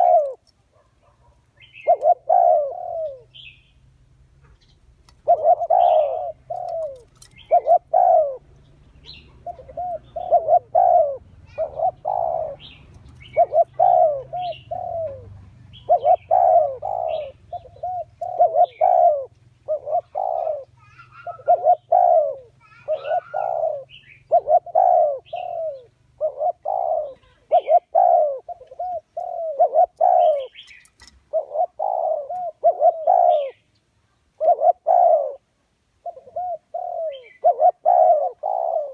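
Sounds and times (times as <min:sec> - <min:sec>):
dove cooing: 0:00.0 - 0:03.5, 0:04.8 - 0:33.6, 0:34.4 - 0:38.9.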